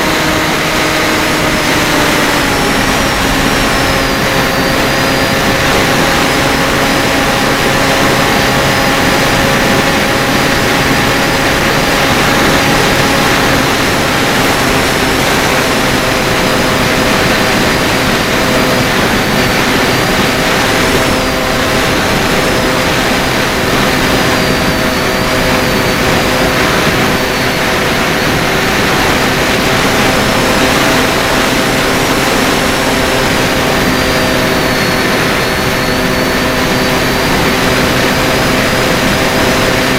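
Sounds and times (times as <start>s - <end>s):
electric motor and propeller whine: 0.0s - 39.9s
rush of air: 0.0s - 39.9s.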